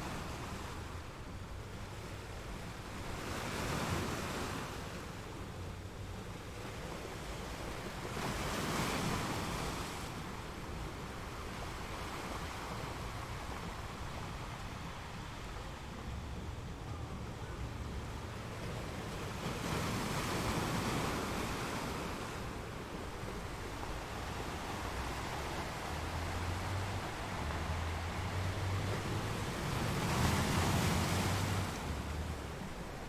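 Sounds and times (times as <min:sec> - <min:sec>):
waves washing on shore: 0:00.0 - 0:33.0.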